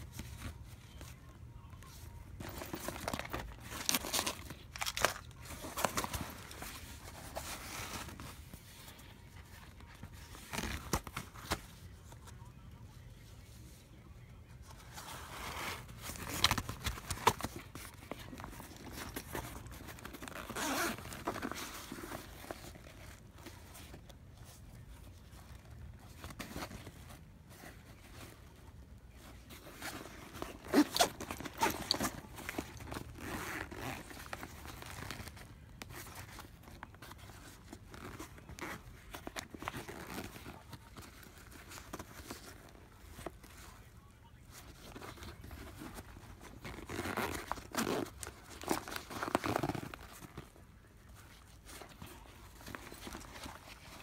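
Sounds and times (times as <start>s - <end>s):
fabric bag rustling: 0.0s - 13.0s, 14.6s - 54.0s.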